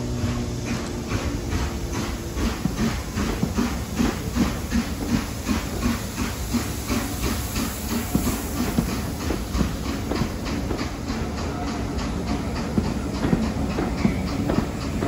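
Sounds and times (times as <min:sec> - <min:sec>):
steam locomotive exhaust beats: 0:00.0 - 0:15.0
train coaches rolling: 0:00.0 - 0:15.0.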